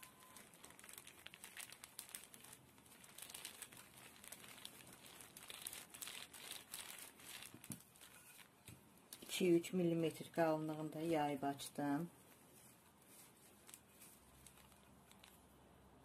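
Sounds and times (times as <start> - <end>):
plastic sheet crinkling: 0.0 - 15.6.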